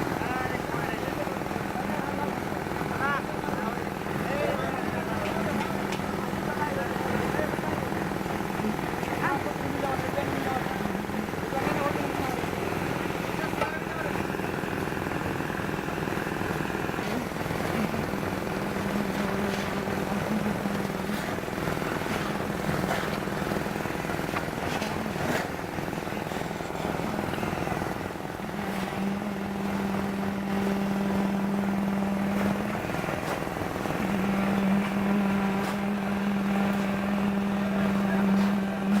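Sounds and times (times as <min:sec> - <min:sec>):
machine engine droning: 0:00.0 - 0:39.0.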